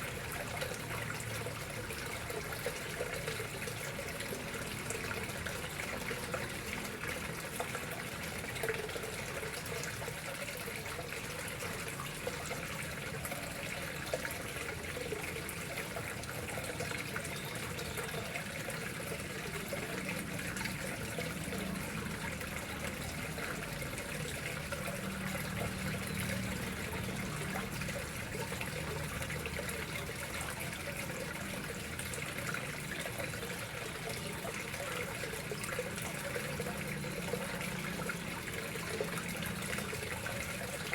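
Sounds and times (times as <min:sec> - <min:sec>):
water trickling into a pond: 0:00.0 - 0:40.9.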